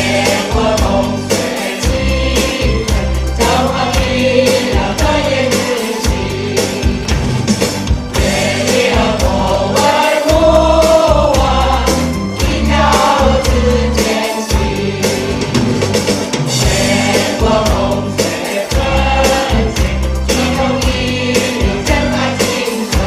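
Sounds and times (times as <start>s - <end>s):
backing music with strong bass: 0.0s - 23.0s
group singing: 0.0s - 23.0s.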